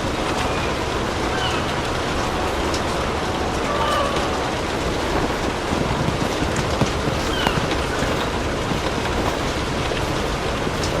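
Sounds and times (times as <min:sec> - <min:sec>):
fireplace fire crackling: 0:00.0 - 0:11.0
steady rain: 0:00.0 - 0:11.0.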